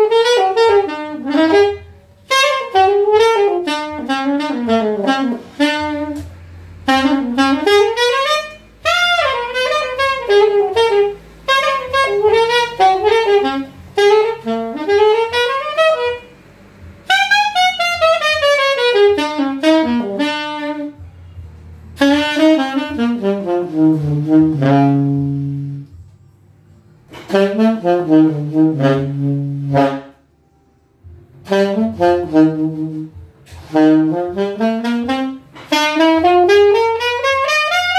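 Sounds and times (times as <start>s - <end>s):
saxophone melody: 0.0s - 37.9s.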